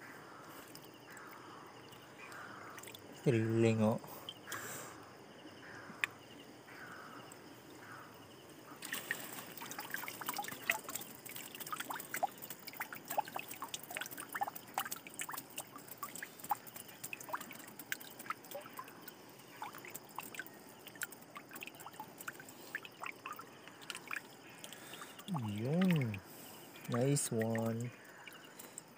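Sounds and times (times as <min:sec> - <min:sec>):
water dripping off a net: 0:00.3 - 0:04.7, 0:08.7 - 0:28.9.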